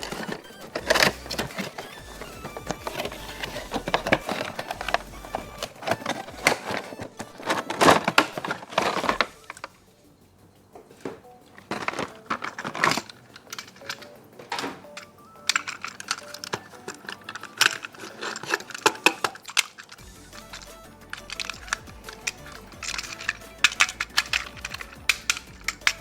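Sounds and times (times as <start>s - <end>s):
plastic and cardboard crinkling: 0.0s - 9.9s, 10.6s - 26.0s.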